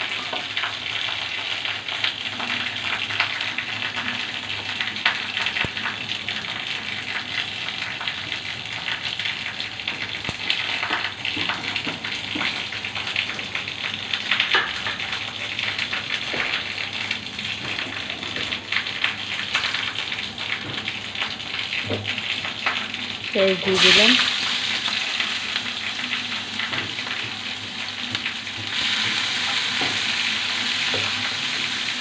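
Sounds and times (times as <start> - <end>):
oil sizzling in a frying pan: 0.0 - 32.0.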